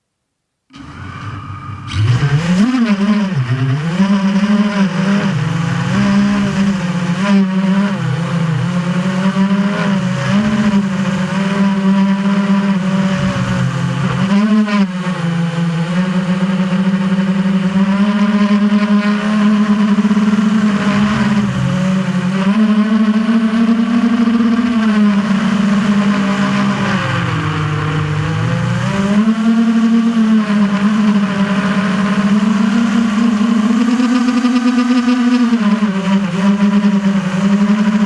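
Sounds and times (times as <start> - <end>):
drone propellers whining: 0.7 - 38.0.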